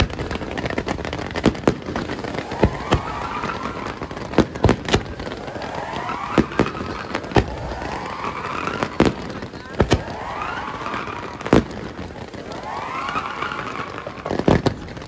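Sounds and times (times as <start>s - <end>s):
firework bangs: 0.0s - 15.0s
firework fountains hissing and crackling: 0.0s - 15.0s
rising firework whistle: 0.0s - 15.0s.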